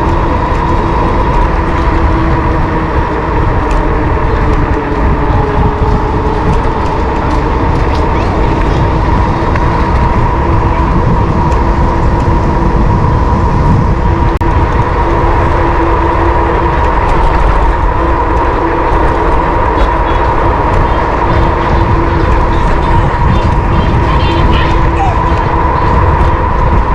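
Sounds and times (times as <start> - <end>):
steady whine: 0.0 - 26.9
wind rushing over microphone: 0.0 - 26.9.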